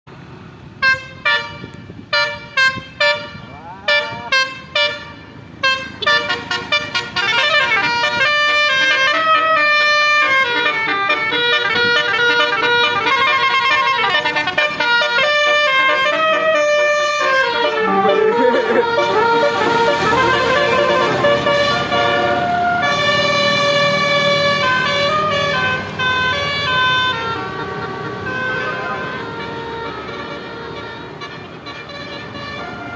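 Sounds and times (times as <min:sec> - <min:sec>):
bus musical horn toots: 0:00.8 - 0:32.9.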